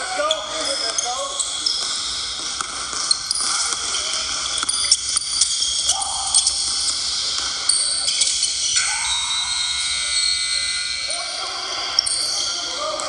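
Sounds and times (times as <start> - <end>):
gym crowd din: 0.0 - 13.0.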